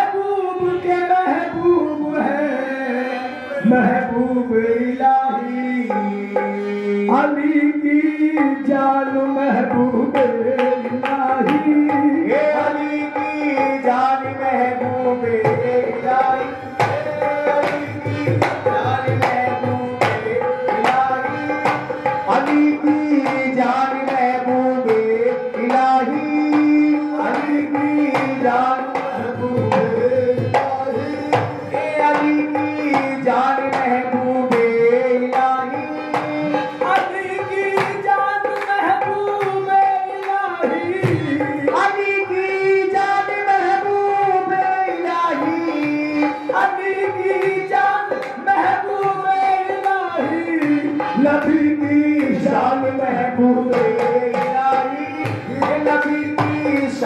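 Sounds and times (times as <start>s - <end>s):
dholak drum rhythm: 0.0s - 57.0s
harmonium melody: 0.0s - 57.0s.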